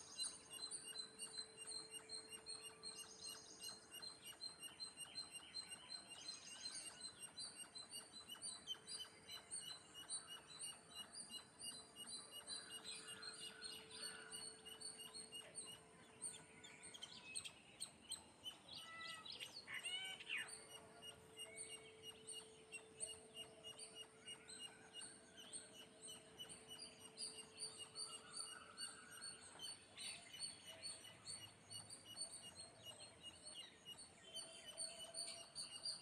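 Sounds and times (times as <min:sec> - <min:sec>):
sparrows chirping: 0:00.0 - 0:36.0.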